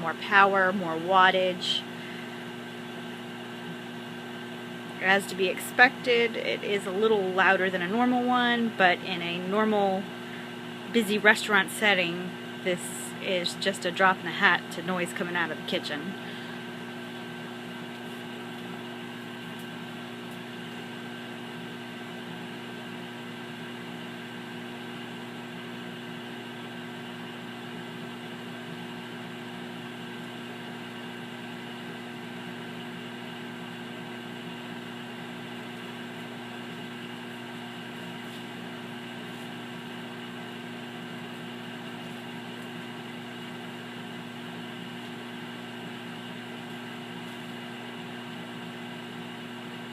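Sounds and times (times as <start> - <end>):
cooling fan noise: 0.0 - 49.9
microwave oven hum: 0.0 - 49.9.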